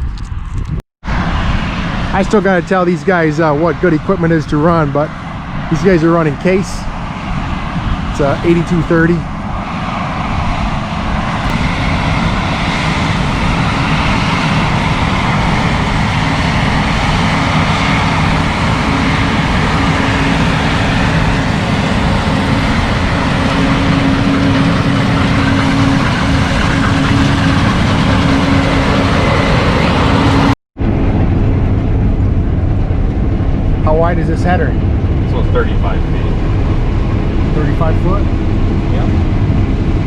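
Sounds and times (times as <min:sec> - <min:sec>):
combine harvester droning: 0:01.1 - 0:40.0.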